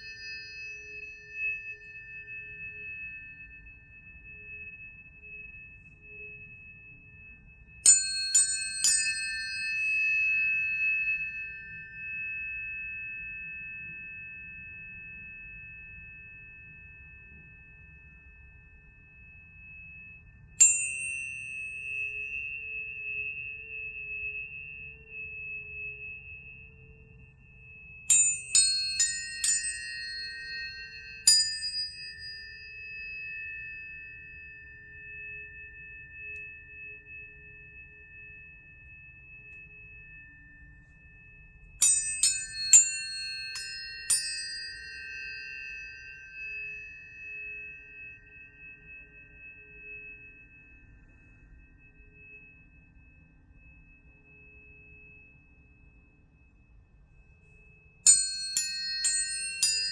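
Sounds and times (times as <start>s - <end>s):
tuning forks struck and ringing: 0.0s - 59.9s.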